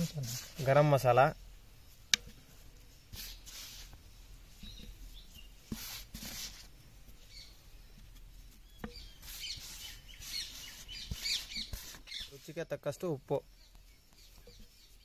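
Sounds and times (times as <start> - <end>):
faint bird chirps: 0.0 - 15.0
spice sprinkled into clay pot: 0.0 - 15.0.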